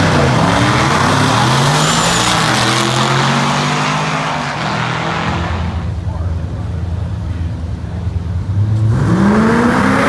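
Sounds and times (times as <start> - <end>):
race car engine at high revs: 0.0 - 6.4, 8.0 - 10.0.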